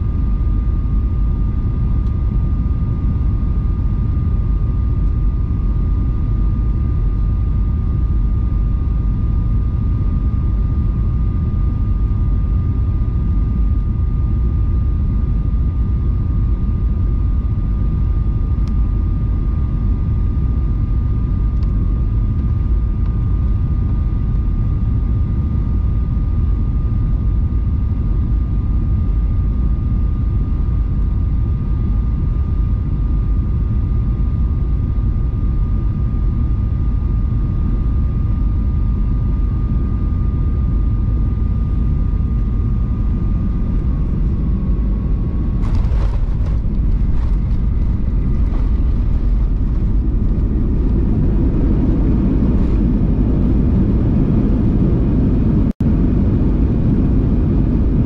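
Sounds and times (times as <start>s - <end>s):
aircraft engine and airflow rumble: 0.0s - 58.0s
thin steady whine: 0.0s - 58.0s.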